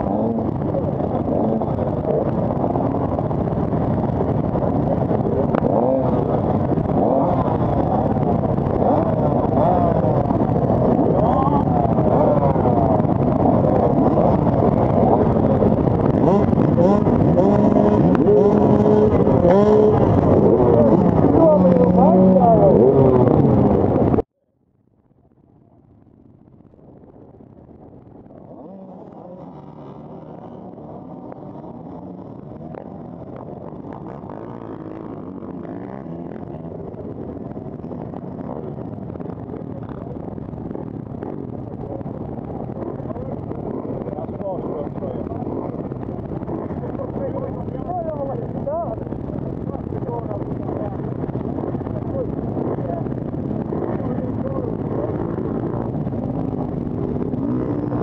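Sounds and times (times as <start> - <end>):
motocross bike engines revving: 0.0 - 24.2, 27.5 - 58.0.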